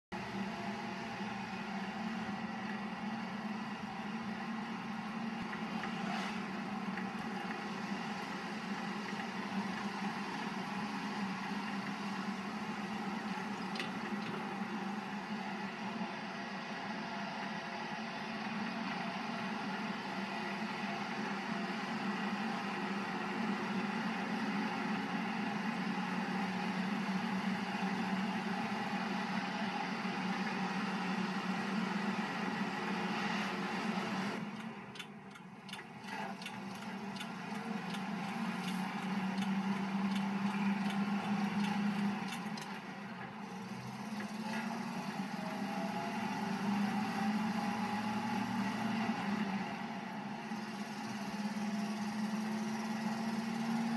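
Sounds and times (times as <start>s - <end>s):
road and cab noise: 0.0s - 53.9s
truck engine running: 0.0s - 53.9s.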